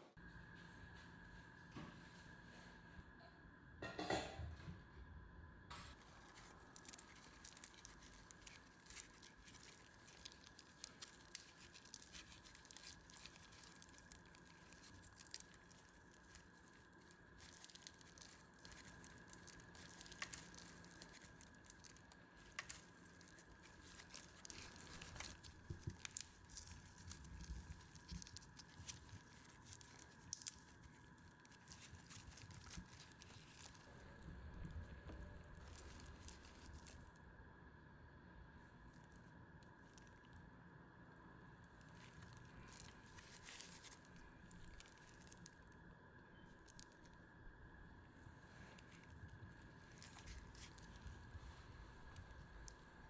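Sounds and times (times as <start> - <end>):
shrimp shells crackling and tearing: 5.9 - 34.4, 35.0 - 37.2, 38.8 - 40.4, 41.6 - 47.2, 48.4 - 53.0.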